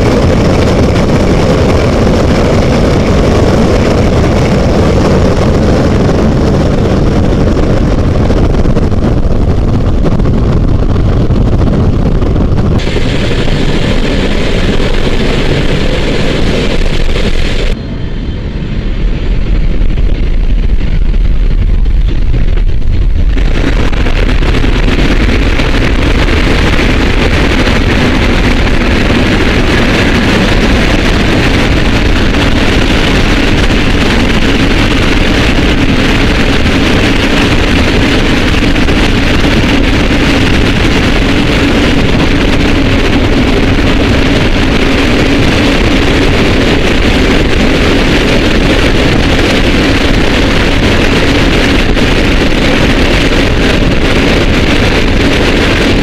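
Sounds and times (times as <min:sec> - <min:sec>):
low hum: 0:00.0 - 0:56.0
roar of rushing air and jet engines: 0:00.0 - 0:56.0.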